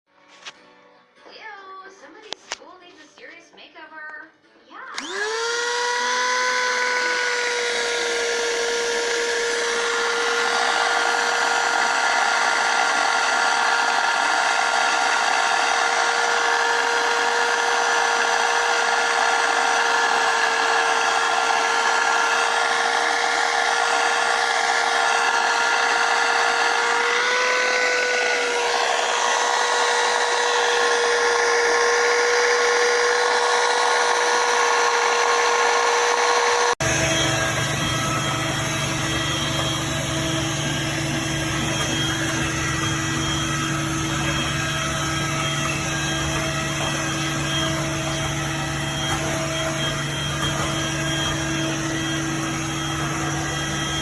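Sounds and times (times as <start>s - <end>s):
vacuum cleaner running: 4.9s - 54.0s.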